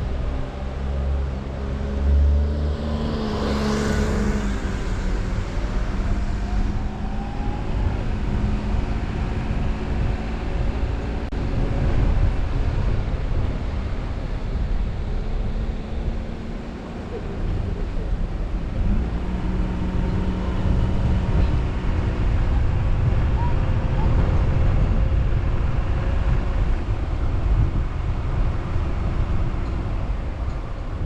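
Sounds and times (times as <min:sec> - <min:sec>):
road and wind rumble: 0:00.0 - 0:31.0.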